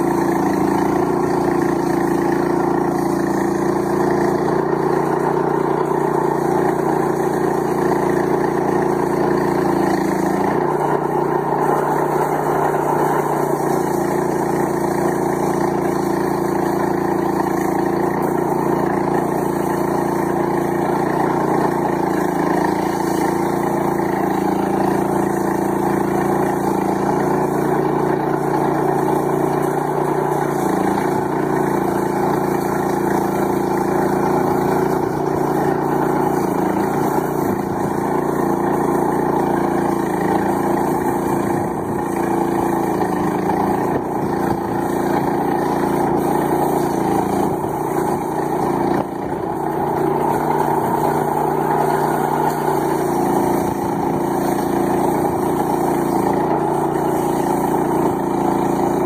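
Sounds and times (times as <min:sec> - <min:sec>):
saw blade ripping wood: 0:00.0 - 0:59.0
sawmill engine running under load: 0:00.0 - 0:59.0.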